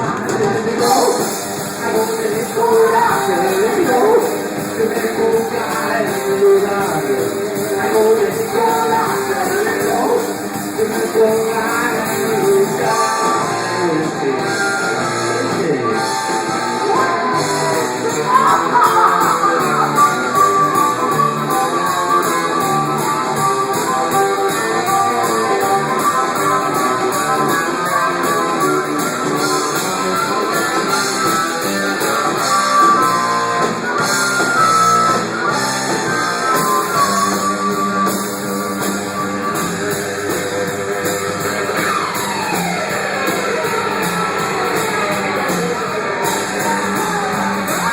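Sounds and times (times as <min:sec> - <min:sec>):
person singing: 0:00.0 - 0:33.7, 0:35.4 - 0:47.9
guitar melody: 0:00.0 - 0:47.9
rock band playing live: 0:00.0 - 0:47.9.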